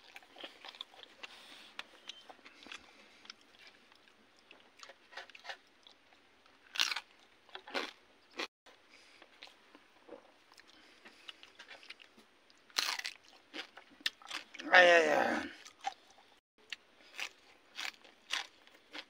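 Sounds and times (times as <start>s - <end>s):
chewing and crunching food: 0.0s - 14.8s, 15.5s - 19.0s.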